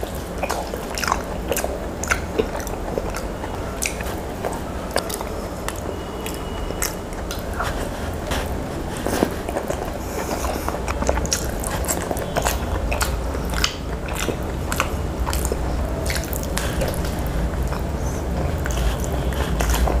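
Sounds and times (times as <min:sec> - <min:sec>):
lip and teeth clicks: 0:00.0 - 0:20.0
steady low hum: 0:00.0 - 0:20.0
wet chewing and biting: 0:00.0 - 0:20.0.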